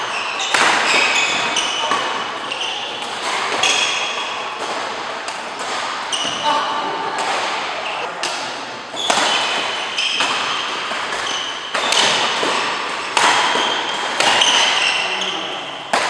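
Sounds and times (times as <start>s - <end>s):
shoes squeaking on court: 0.0s - 4.8s, 5.6s - 6.7s, 9.0s - 15.9s
racket hitting shuttlecock: 0.0s - 16.0s.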